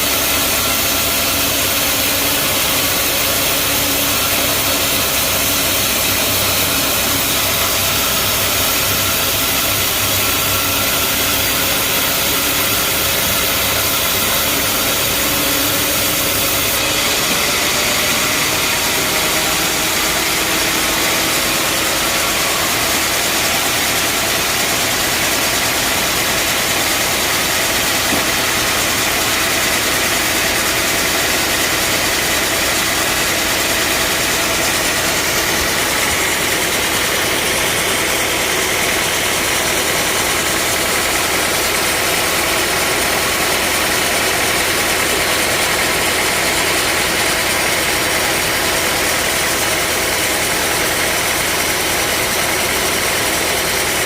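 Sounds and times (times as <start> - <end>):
bandsaw machine running: 0.0 - 54.0.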